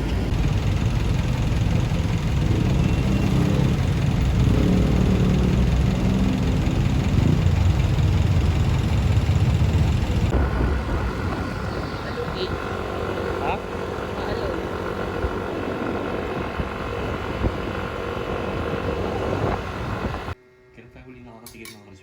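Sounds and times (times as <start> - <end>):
low mechanical rumble: 0.0 - 21.1.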